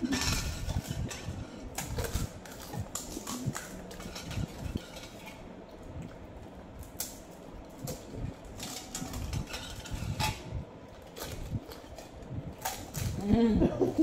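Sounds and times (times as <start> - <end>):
people chewing: 0.0 - 14.0.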